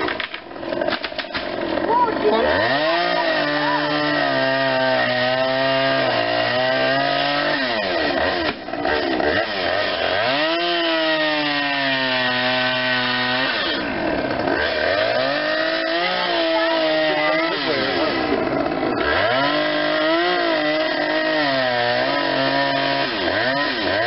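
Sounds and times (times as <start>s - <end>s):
chainsaw revving and cutting wood: 0.0s - 24.0s.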